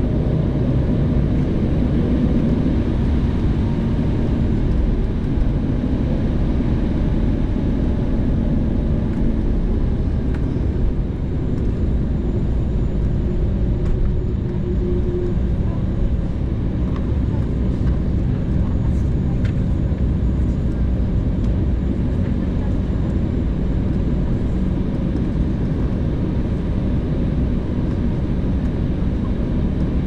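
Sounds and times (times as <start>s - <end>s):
jet engine cabin roar: 0.0s - 30.0s.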